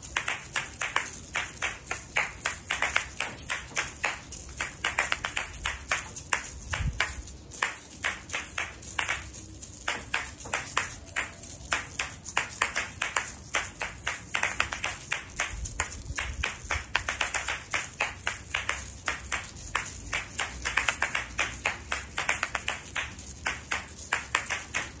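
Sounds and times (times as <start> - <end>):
seeds rattling in shells: 0.0 - 25.0
shells clicking together: 0.0 - 25.0.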